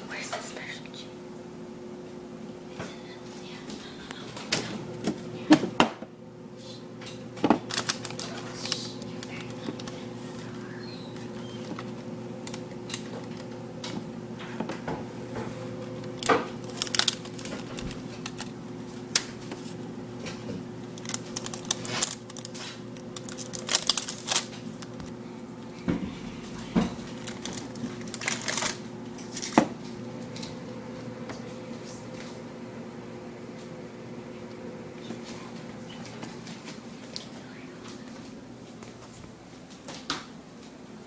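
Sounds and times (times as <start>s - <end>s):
low electrical hum: 0.0s - 41.0s.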